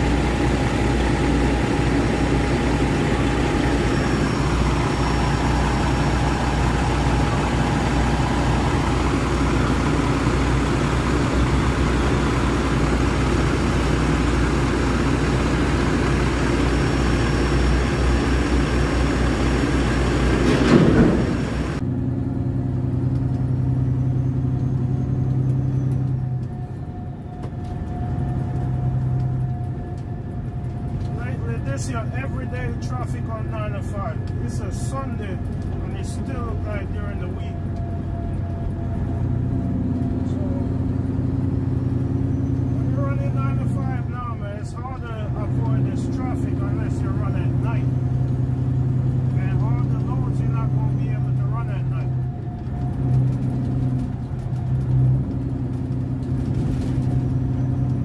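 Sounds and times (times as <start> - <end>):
crane machinery running: 0.0 - 58.0
diesel truck idling: 0.0 - 58.0
road noise inside cab: 0.0 - 58.0
truck engine hum: 0.0 - 58.0.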